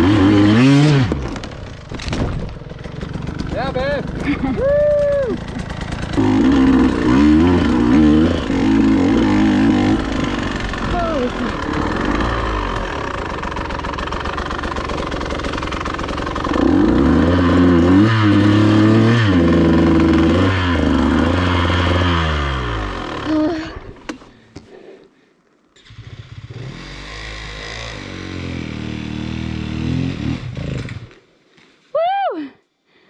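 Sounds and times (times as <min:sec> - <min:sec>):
dirt bike engine revving: 0:00.0 - 0:01.2, 0:02.7 - 0:23.8, 0:25.8 - 0:31.2.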